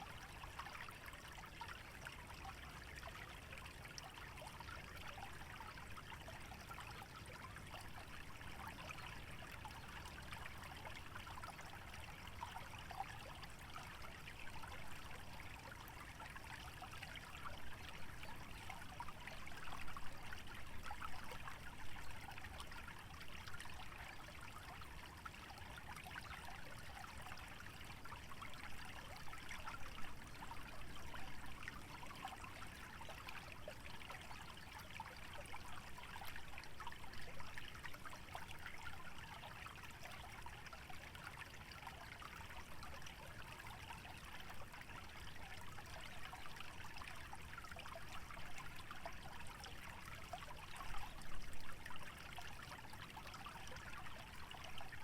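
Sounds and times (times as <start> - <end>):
stream trickling: 0.0 - 55.0.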